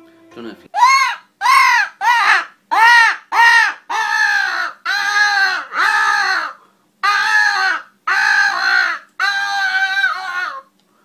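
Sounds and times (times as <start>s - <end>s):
crow call caws: 1.4s - 10.7s.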